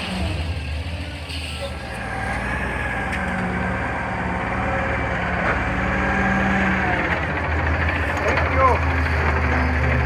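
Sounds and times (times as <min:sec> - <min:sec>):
garbage truck engine running: 0:00.0 - 0:10.0.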